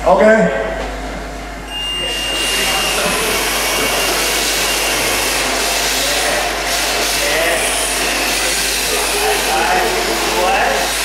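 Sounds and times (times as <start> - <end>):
electric motors whining: 0.9 - 11.0
tyres hissing across floor: 2.0 - 11.0.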